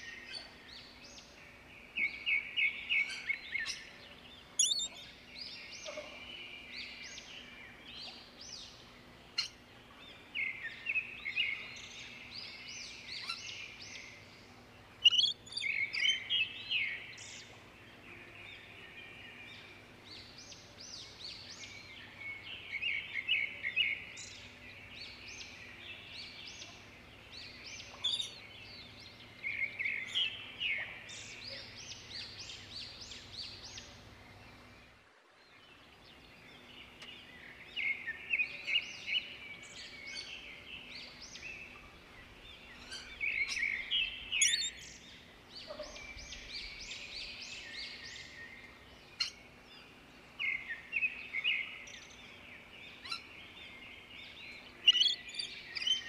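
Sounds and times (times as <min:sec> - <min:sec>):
birds chirping: 0:00.0 - 0:34.9, 0:35.6 - 0:56.0.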